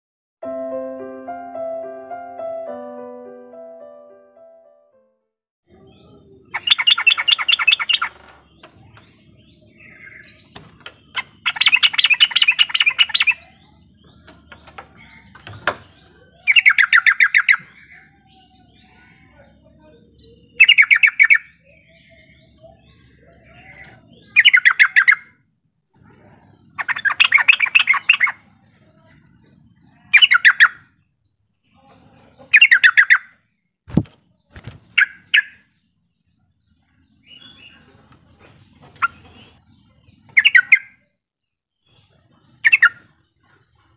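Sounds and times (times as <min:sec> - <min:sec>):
bird singing chattering notes: 0:05.7 - 0:25.4, 0:26.5 - 0:31.4, 0:32.5 - 0:33.5, 0:34.4 - 0:43.9.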